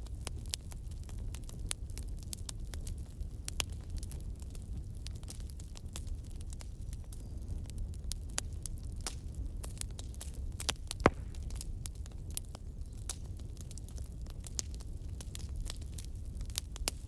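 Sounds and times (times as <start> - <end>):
wood bonfire crackling: 0.0 - 17.0.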